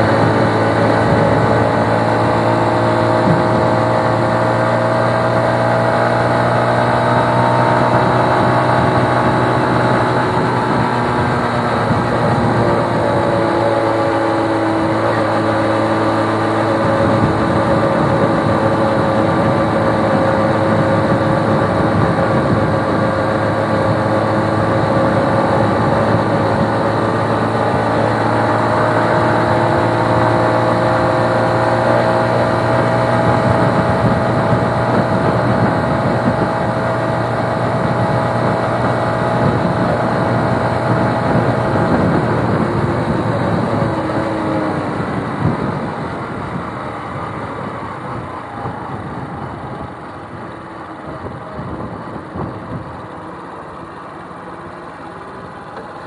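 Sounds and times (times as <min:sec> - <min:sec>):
wind rush: 0:00.0 - 0:53.1
motorcycle engine running: 0:00.0 - 0:56.0
road noise: 0:00.0 - 0:56.0.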